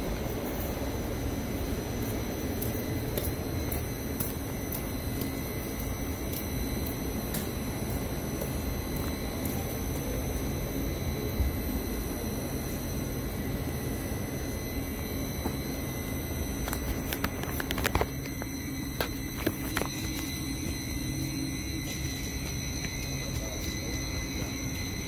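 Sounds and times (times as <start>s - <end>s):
faint high-pitched whine: 0.0s - 25.0s
train low rumble: 0.0s - 25.0s.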